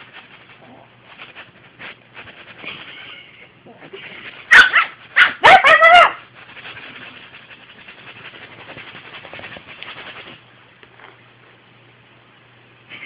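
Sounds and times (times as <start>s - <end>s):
scratchy rustling: 0.0s - 11.2s.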